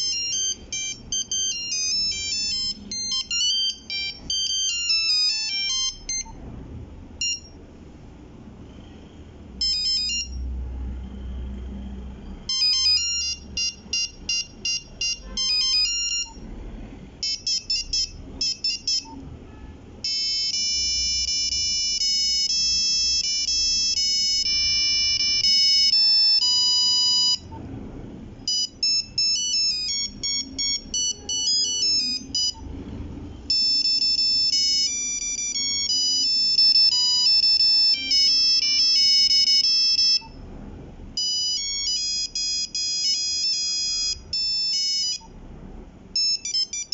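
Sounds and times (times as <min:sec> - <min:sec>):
monophonic phone ringtones: 0:00.0 - 0:06.4, 0:07.2 - 0:07.6, 0:09.6 - 0:10.6, 0:12.4 - 0:16.5, 0:17.1 - 0:27.6, 0:28.4 - 0:32.8, 0:33.4 - 0:40.4, 0:41.2 - 0:45.4, 0:46.1 - 0:46.9.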